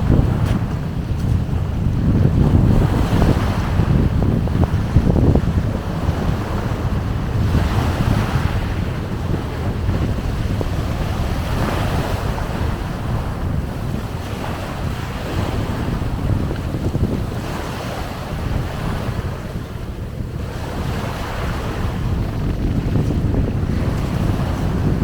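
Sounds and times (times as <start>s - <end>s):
sea waves washing ashore: 0.0s - 25.0s
wind buffeting microphone: 0.0s - 25.0s.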